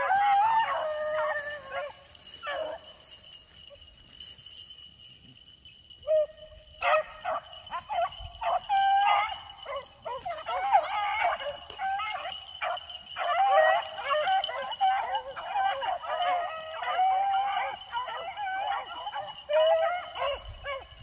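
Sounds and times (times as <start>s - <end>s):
beagles baying: 0.0s - 4.2s, 5.9s - 21.0s.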